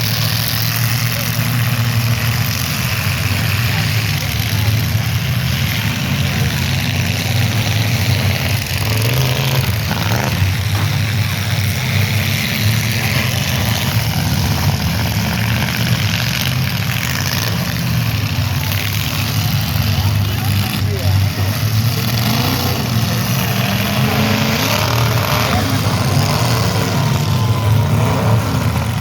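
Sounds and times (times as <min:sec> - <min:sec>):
car engines running loudly: 0:00.0 - 0:29.0.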